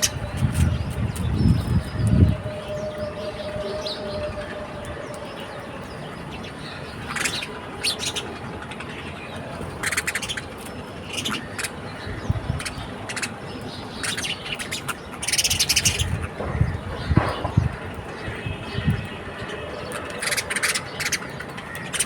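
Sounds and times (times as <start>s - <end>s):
small birds chirping: 0.0s - 22.0s
steady background noise: 0.0s - 22.0s.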